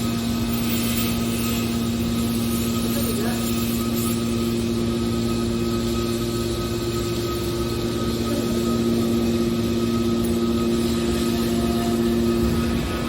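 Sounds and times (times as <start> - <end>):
baler machine humming: 0.0 - 13.0.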